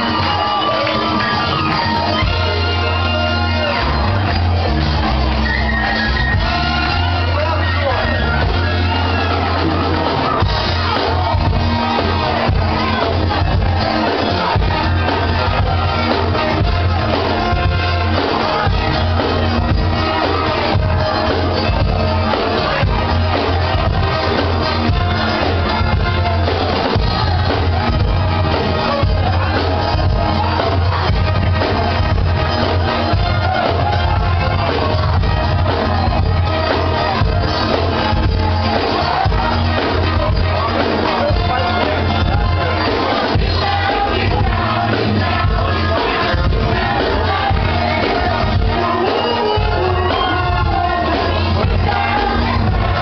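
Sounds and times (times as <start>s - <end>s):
audience shouting and whooping: 0.0s - 53.0s
live disco-funk band with singing: 0.0s - 53.0s.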